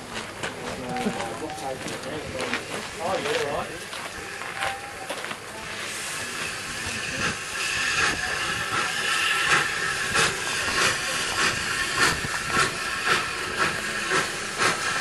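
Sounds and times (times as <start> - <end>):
steam locomotive chuffing: 0.2 - 15.0
steam hissing: 2.4 - 15.0.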